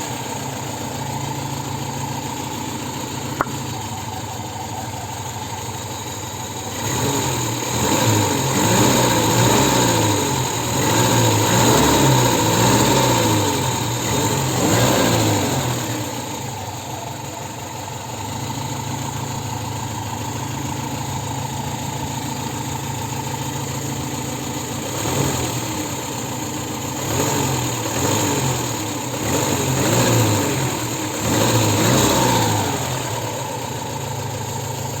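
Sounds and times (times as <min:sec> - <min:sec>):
car engine revving at low revs: 0:00.0 - 0:35.0.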